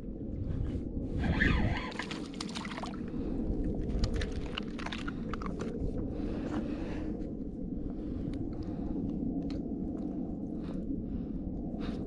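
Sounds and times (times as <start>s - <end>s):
low rush of wind and water: 0.0s - 12.0s.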